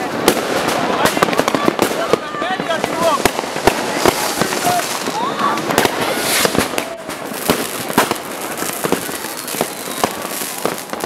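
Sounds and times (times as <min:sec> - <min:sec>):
crackle of distant explosions: 0:00.0 - 0:11.0
rockets and firecrackers banging: 0:00.0 - 0:11.0.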